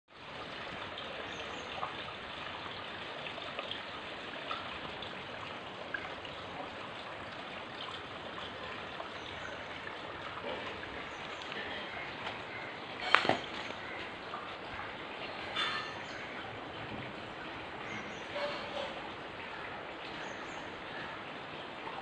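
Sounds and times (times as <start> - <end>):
small water splashes: 0.1 - 22.0
water flowing into pond: 0.1 - 22.0.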